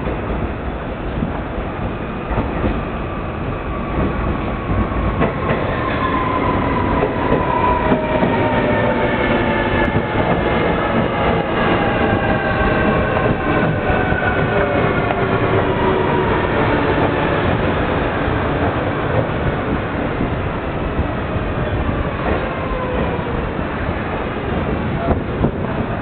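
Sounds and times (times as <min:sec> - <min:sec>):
electric train rumble: 0:00.0 - 0:26.0.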